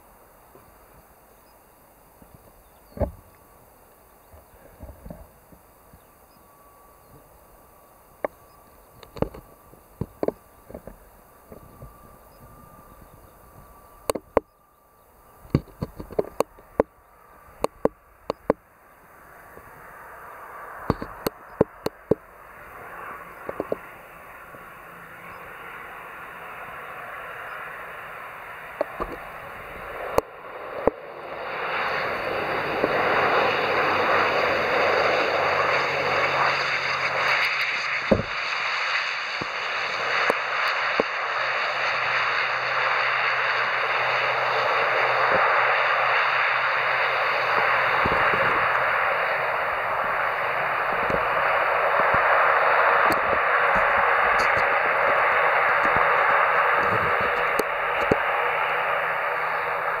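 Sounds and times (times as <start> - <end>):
turboprop airliner engines and propellers: 0.0 - 60.0.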